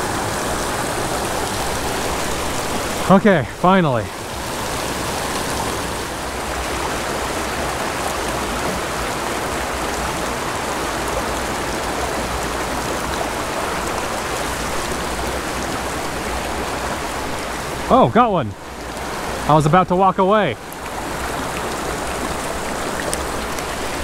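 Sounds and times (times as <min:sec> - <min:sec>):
mountain creek rushing over rocks: 0:00.0 - 0:24.0.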